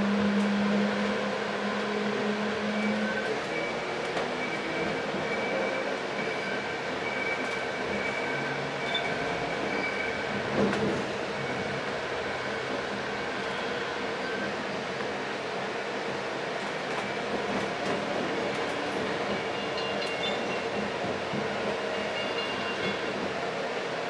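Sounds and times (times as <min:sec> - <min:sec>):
rail car rumble: 0:00.0 - 0:24.0.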